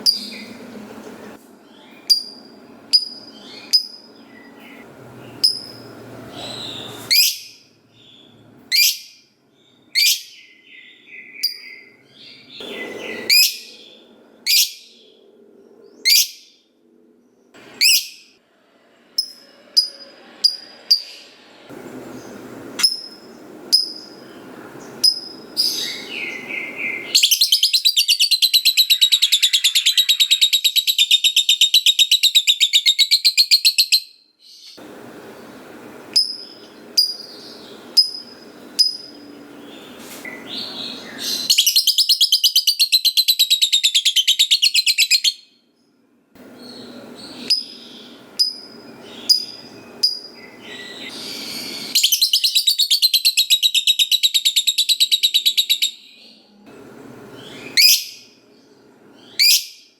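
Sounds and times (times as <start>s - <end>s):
lovebird chirping: 0.0s - 16.6s, 17.7s - 18.3s, 22.0s - 34.8s, 36.2s - 45.5s, 46.6s - 56.4s, 59.1s - 59.9s.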